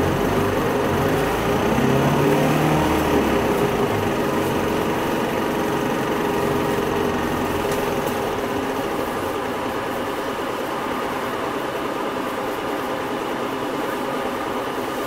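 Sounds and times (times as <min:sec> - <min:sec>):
bus engine humming: 0:00.0 - 0:15.0
road and tyre noise: 0:00.0 - 0:15.0.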